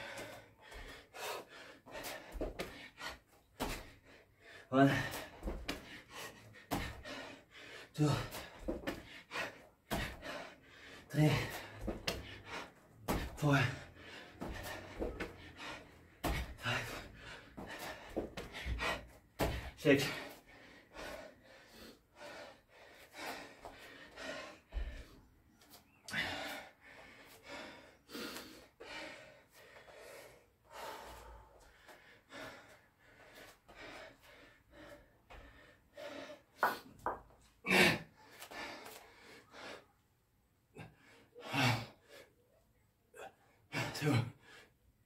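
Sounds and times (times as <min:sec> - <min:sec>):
man breathing hard and gasping: 0:00.0 - 0:45.0.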